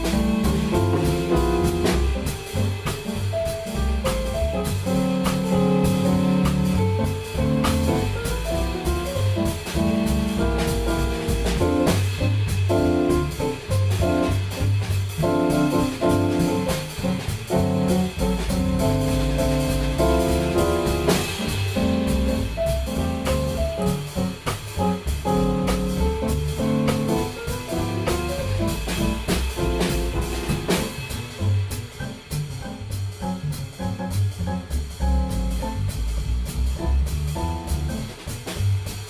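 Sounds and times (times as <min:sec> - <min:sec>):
drum kit keeping time: 0:00.0 - 0:39.0
stage piano chords and melody: 0:00.0 - 0:39.0
walking double bass: 0:00.0 - 0:39.0.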